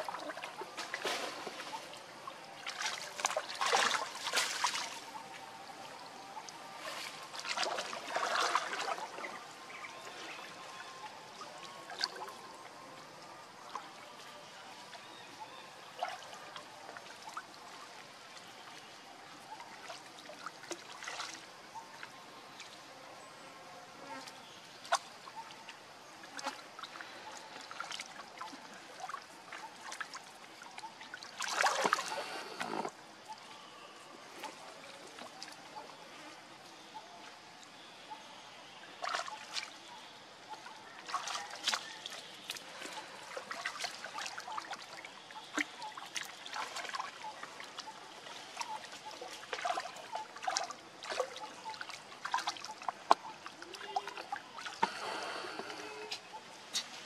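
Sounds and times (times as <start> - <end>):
small splashes and drips: 0.0 - 15.1, 15.8 - 22.8, 24.2 - 33.4, 34.3 - 35.9, 38.8 - 55.2
water splashing and lapping: 0.0 - 23.0, 24.2 - 57.0.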